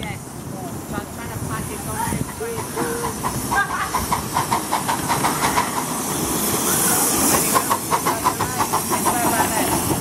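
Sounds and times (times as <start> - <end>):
miniature steam locomotive chuffing: 0.0 - 10.0
steam hissing: 0.1 - 10.0.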